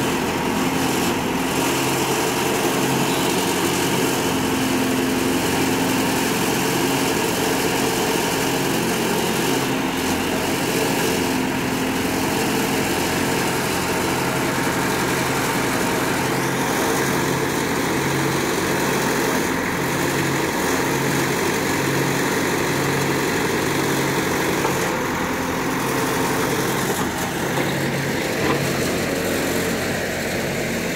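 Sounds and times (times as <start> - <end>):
backhoe digging soil: 0.0 - 30.9
diesel engine running: 0.0 - 30.9.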